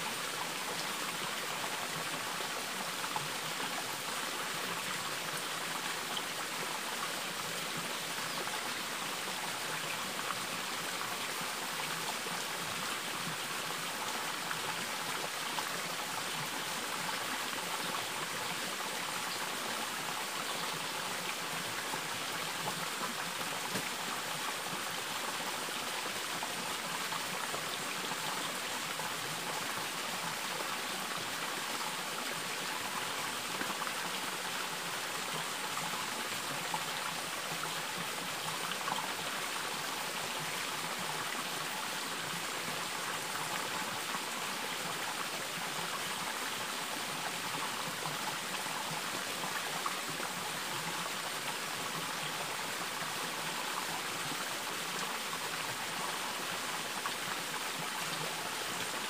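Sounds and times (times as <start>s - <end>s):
water flowing over rocks: 0.0s - 59.0s.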